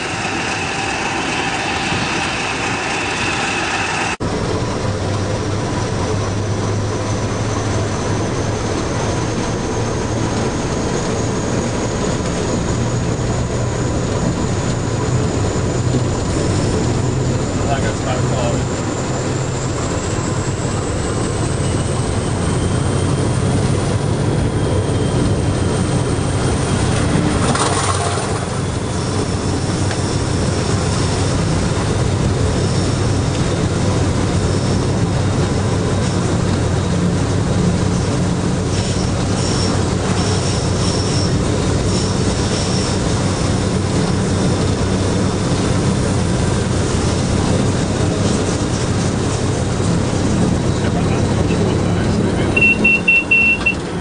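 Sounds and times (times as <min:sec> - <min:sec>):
wheels squealing on rails: 0:00.0 - 0:04.2, 0:05.9 - 0:54.0
diesel locomotive engine running: 0:00.0 - 0:54.0
high whine: 0:00.0 - 0:54.0
wheels rumbling on rail: 0:00.0 - 0:54.0.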